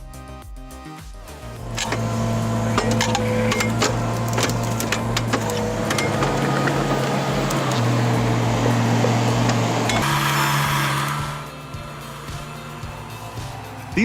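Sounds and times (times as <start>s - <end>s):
machine engine running: 1.2s - 14.0s.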